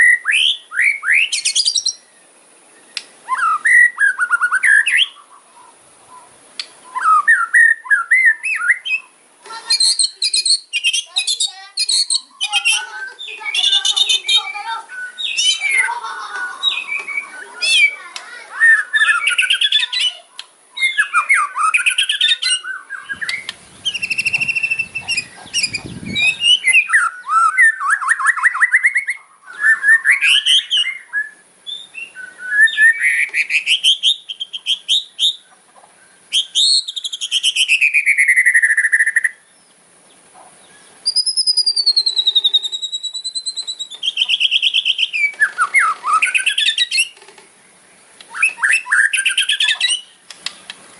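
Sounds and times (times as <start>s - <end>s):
bird whistles and trills: 0.0s - 2.1s, 2.8s - 35.6s, 36.3s - 39.4s, 40.6s - 47.2s, 48.2s - 50.7s
songbird harsh rattling song: 0.0s - 50.9s.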